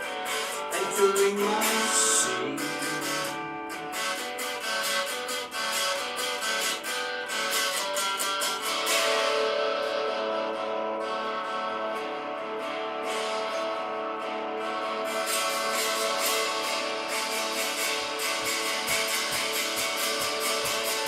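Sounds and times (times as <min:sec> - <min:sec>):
picked guitar notes: 0:00.0 - 0:21.0
ringing guitar chords: 0:00.0 - 0:21.0.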